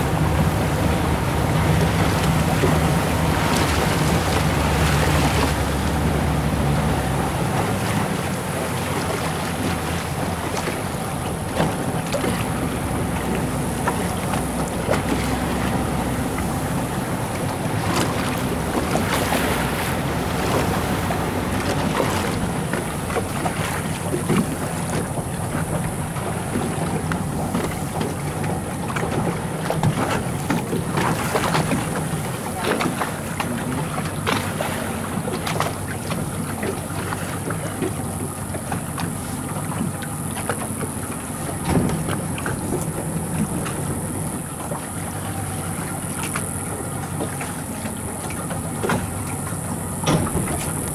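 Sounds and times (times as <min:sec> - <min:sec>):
motorboat engine running: 0:00.0 - 0:50.9
water rushing past hull: 0:00.0 - 0:50.9.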